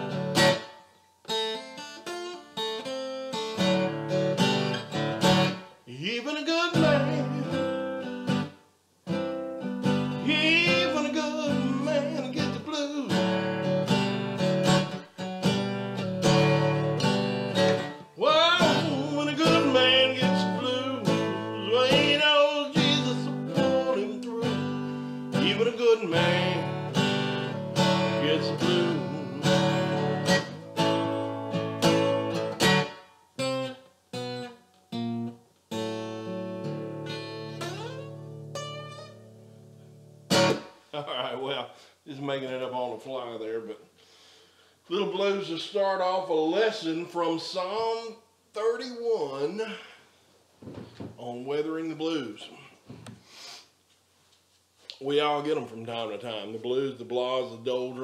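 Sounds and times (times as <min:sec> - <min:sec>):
acoustic guitar blues: 0:00.0 - 0:43.7, 0:44.9 - 0:50.0.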